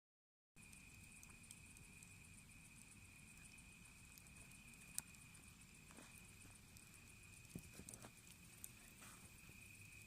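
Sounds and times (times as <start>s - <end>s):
faint ticks: 0.6s - 10.0s.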